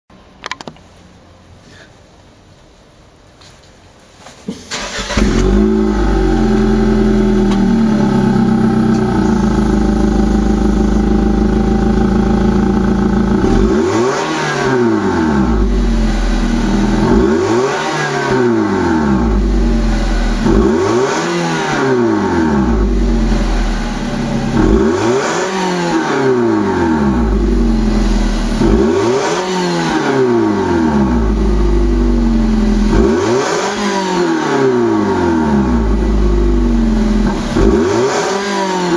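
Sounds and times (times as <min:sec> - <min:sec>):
car engine starting and revving: 0:04.7 - 0:38.9.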